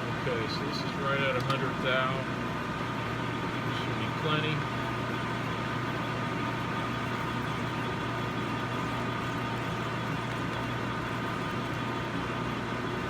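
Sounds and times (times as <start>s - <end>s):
metal lathe running: 0.1s - 13.0s.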